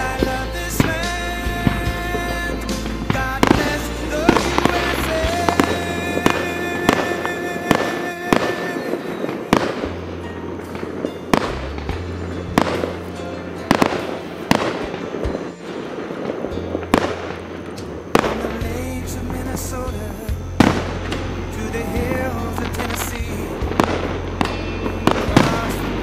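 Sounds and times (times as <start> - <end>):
fireworks bangs: 0.0 - 26.0
music playing: 0.0 - 26.0.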